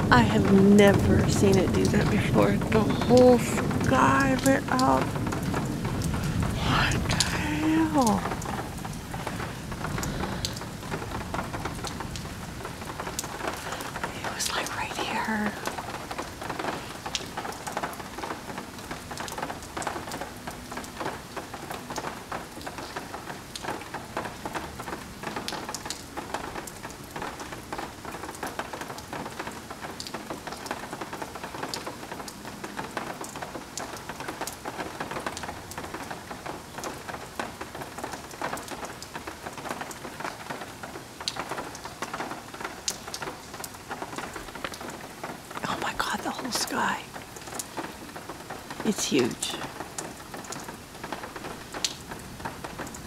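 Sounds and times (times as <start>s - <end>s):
raindrops ticking on surfaces: 0.0s - 53.0s
steady rain: 0.0s - 53.0s.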